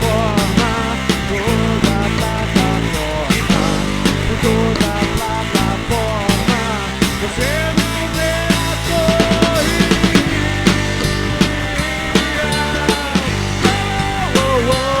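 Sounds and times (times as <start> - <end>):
bass guitar: 0.0 - 15.0
drum kit beat: 0.0 - 15.0
electric guitar: 0.0 - 15.0
sliding held guitar notes: 0.0 - 15.0.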